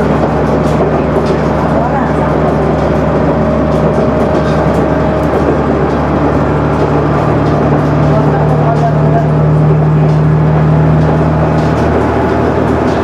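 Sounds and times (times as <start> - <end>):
diesel engine drone: 0.0 - 13.0
train wheels on rails: 0.0 - 13.0.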